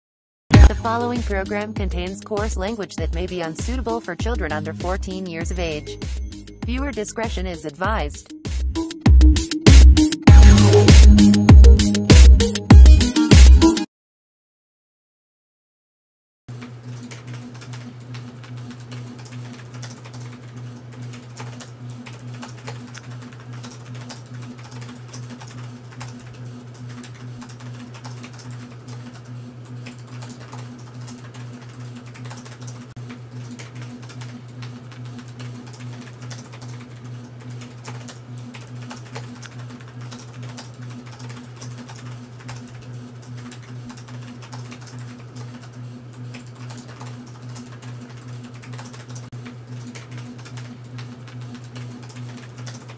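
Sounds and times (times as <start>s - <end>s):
rapid keyboard typing: 0.6s - 8.2s, 16.9s - 52.9s.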